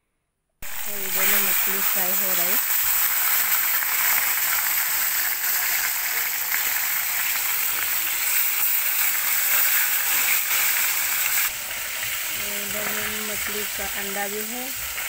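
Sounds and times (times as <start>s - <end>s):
fish deep-frying in hot oil: 0.6s - 15.0s.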